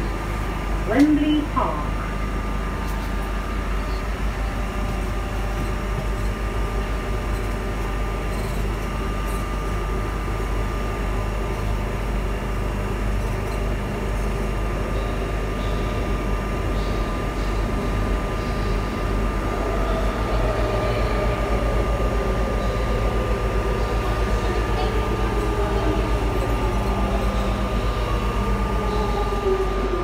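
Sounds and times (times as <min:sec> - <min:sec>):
thin steady whine: 0:00.0 - 0:30.0
train carriage rumble: 0:00.0 - 0:30.0.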